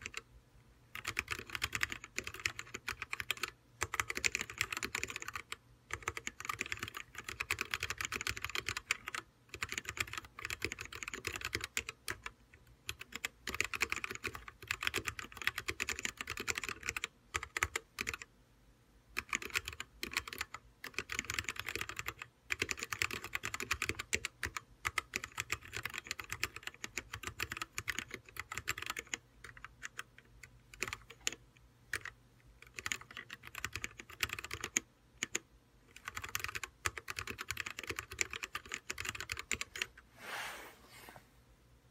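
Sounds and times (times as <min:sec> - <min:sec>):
mechanical keyboard typing: 0:00.0 - 0:00.3, 0:00.9 - 0:18.3, 0:19.2 - 0:40.0.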